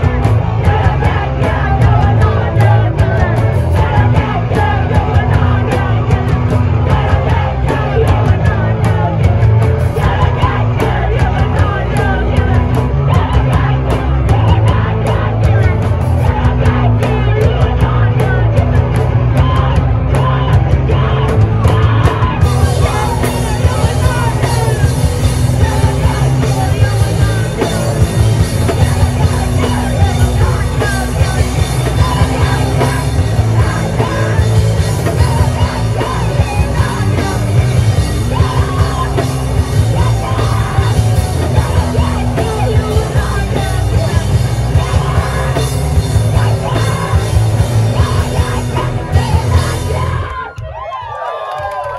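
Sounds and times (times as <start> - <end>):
live punk rock band: 0.0 - 51.9
shouted vocals: 0.0 - 51.9.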